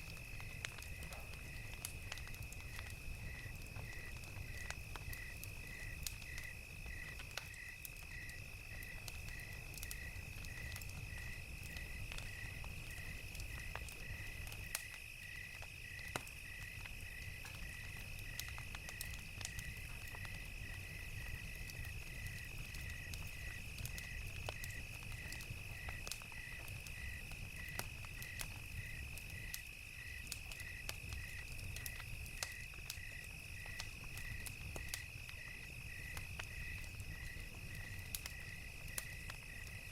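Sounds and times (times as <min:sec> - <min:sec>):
wood fire crackling: 0:00.0 - 0:39.9
crickets chirping: 0:00.1 - 0:39.9.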